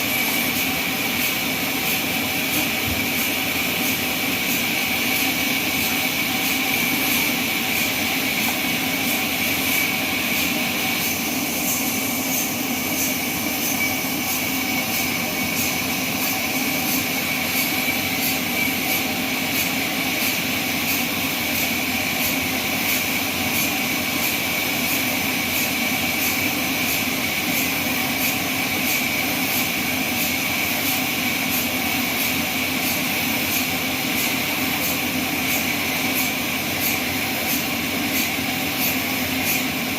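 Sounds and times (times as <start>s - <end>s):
band sawmill running: 0.0s - 39.9s
high-pitched machine whine: 0.0s - 39.9s.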